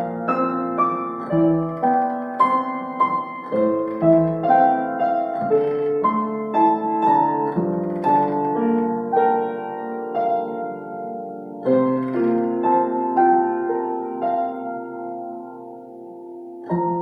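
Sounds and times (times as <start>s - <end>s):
upright piano playing: 0.0s - 17.0s.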